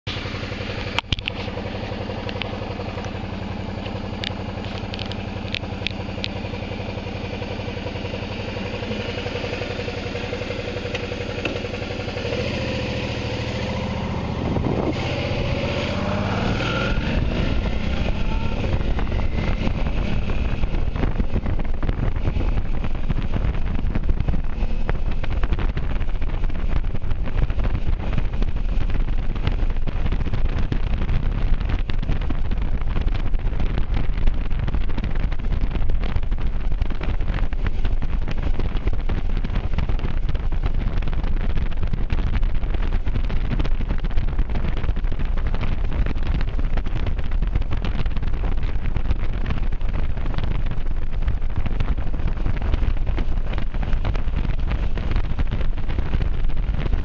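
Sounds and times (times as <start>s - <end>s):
motorcycle engine: 0.0s - 57.0s
wind buffeting microphone: 11.2s - 57.0s.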